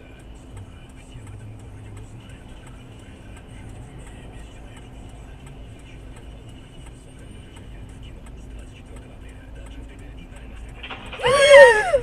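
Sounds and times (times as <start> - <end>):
light regular ticking: 0.0 - 11.1
car engine and road rumble: 0.0 - 12.0.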